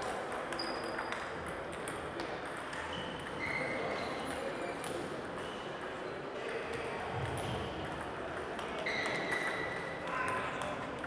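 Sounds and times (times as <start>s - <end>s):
table tennis balls clicking: 0.0s - 11.0s.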